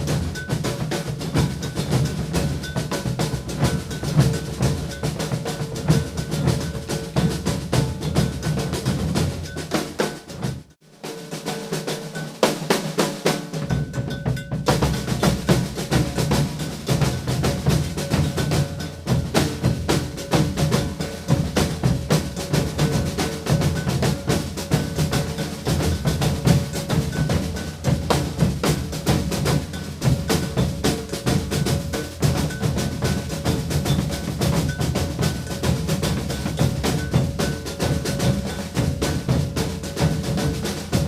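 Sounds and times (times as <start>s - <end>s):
deep bass drums: 0.0s - 9.6s, 13.8s - 41.0s
bell struck in rhythm: 0.0s - 41.0s
snare drums: 0.0s - 41.0s.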